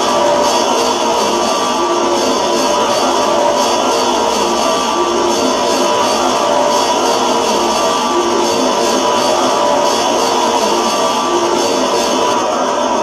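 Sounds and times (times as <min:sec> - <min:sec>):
dense noise music wash: 0:00.0 - 0:13.0.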